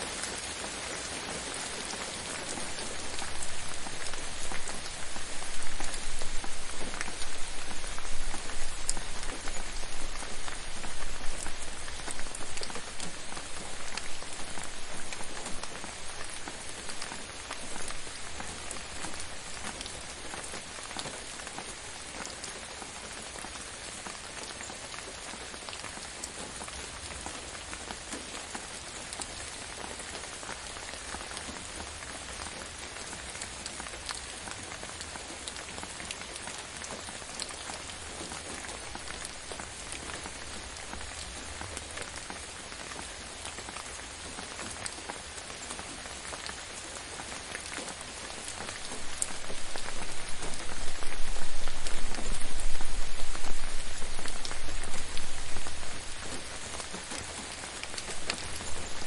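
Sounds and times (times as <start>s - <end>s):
gentle rain pattering: 0.0s - 59.0s.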